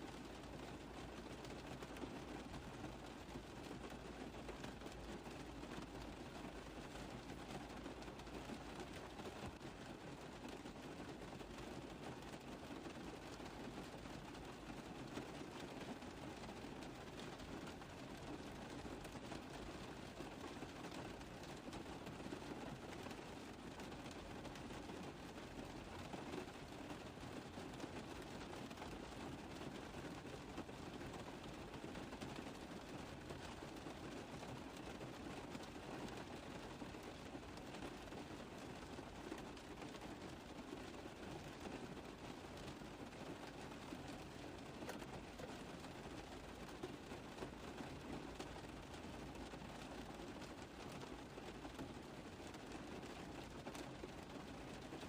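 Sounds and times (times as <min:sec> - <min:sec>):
rain on a car roof: 0:00.0 - 0:55.0.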